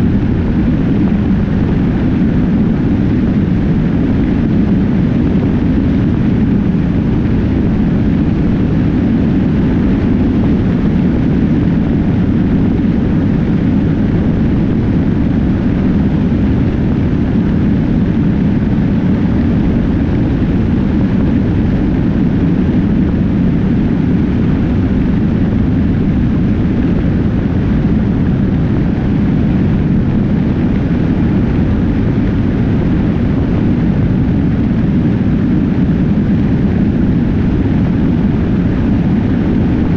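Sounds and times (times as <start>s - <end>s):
motorcycle road noise: 0.0s - 39.9s
wind hitting microphone: 0.0s - 39.9s.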